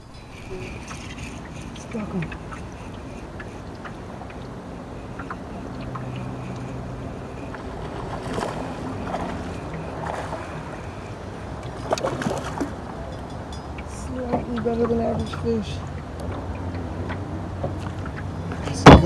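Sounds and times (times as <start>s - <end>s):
electric motor humming: 0.0s - 18.8s
wind on microphone: 0.0s - 19.0s.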